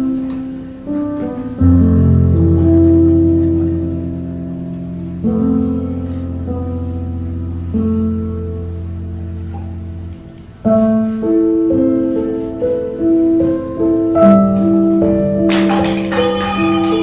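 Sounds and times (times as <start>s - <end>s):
slow instrumental melody: 0.0s - 17.0s.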